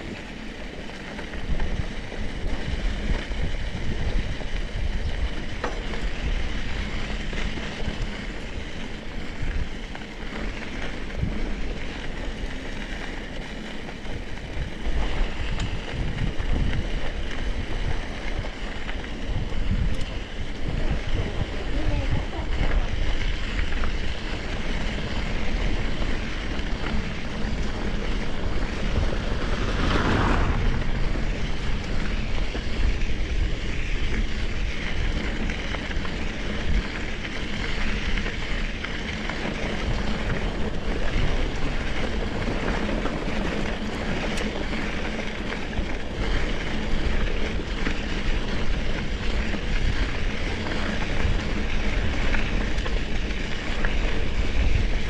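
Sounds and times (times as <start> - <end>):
mountain bike rolling on trail: 0.0 - 55.0
wind rushing on microphone: 1.2 - 55.0.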